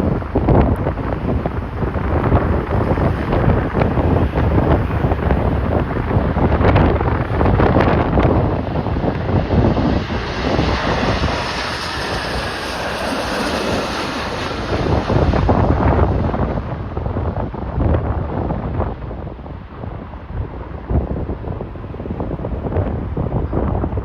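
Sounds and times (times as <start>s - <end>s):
jet airliner engines rushing: 0.0s - 24.0s
strong gusty wind on microphone: 0.0s - 24.0s.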